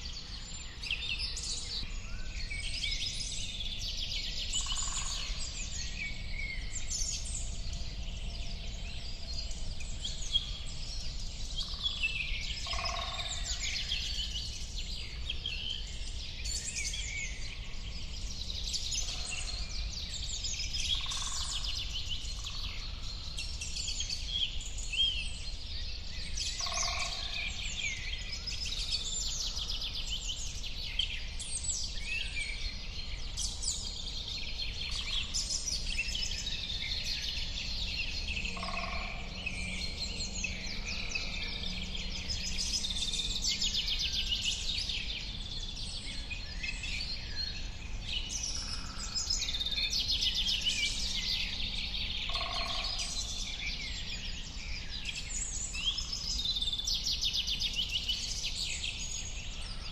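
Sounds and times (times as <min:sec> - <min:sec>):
songbird chorus: 0:00.0 - 0:59.9.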